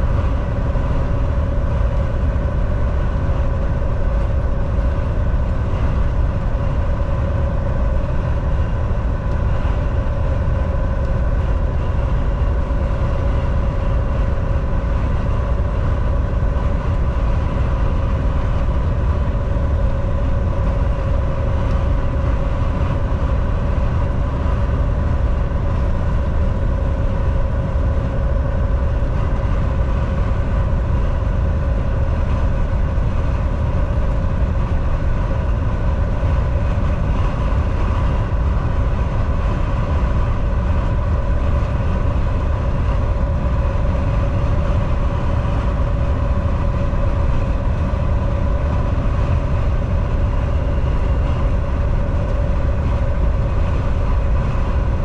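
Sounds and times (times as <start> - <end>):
steady hum: 0.0 - 55.0
truck engine and road rumble: 0.0 - 55.0.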